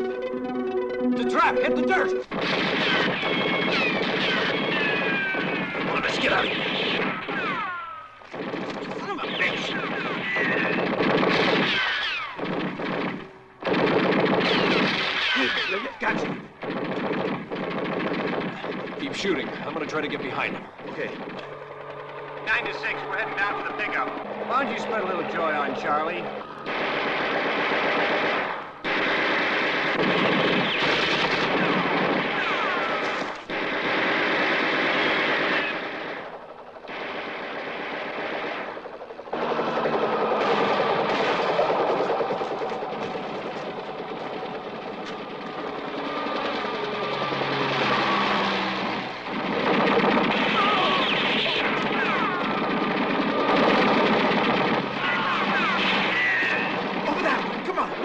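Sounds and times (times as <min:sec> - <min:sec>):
machine-gun fire in bursts: 0:01.9 - 0:58.0.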